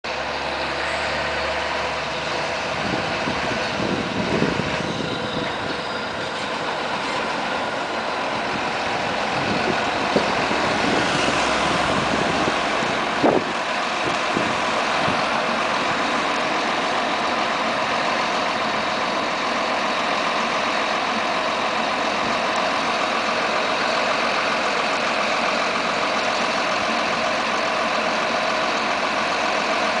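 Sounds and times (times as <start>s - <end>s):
tractor diesel engine: 0.0s - 30.0s.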